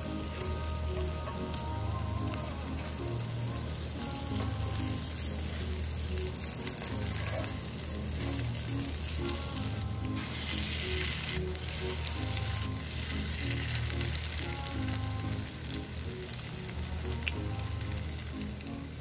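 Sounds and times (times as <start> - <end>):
background music: 0.0 - 19.0
potatoes and bacon sizzling: 0.0 - 19.0.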